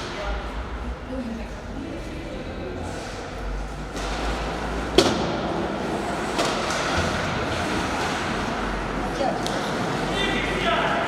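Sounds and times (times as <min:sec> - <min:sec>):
hubbub of ice rink: 0:00.0 - 0:11.0.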